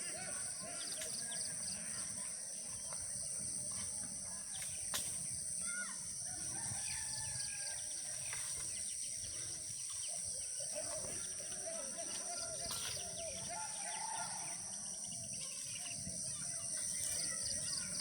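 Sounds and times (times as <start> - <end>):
birds chirping: 0.0 - 3.7, 6.4 - 18.0.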